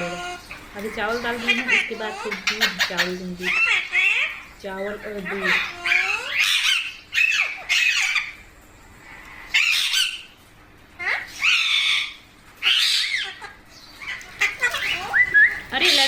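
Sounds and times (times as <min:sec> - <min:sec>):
parakeet squawking: 0:00.0 - 0:08.5, 0:09.2 - 0:10.4, 0:11.0 - 0:16.0.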